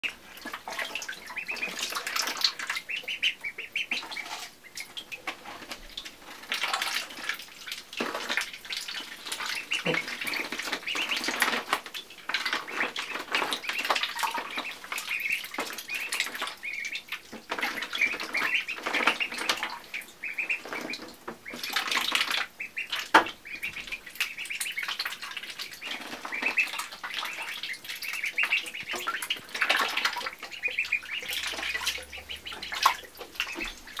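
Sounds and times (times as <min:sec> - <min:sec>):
ducklings peeping: 0:00.0 - 0:34.0
ducklings splashing in water: 0:00.0 - 0:34.0.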